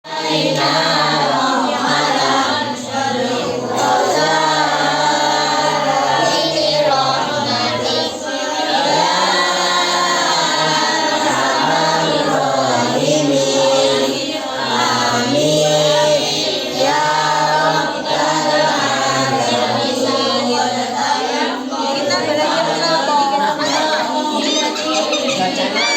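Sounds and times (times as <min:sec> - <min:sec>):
children chanting in unison: 0:00.0 - 0:25.9.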